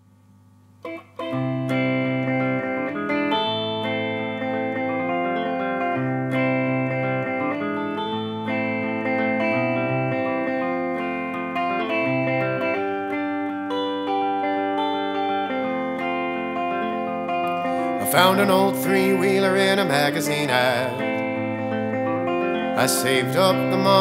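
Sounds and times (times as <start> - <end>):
electric guitar chords and low notes: 0.0 - 24.0.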